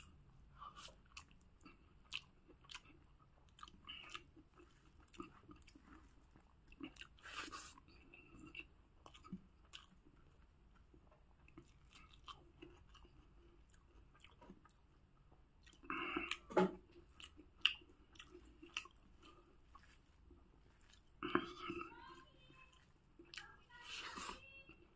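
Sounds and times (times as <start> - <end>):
person chewing with mouth clicks: 0.0 - 22.0, 22.7 - 23.6.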